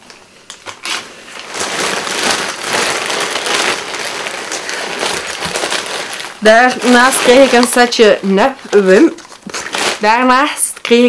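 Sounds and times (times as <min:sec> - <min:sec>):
bag rustling: 0:00.8 - 0:10.5.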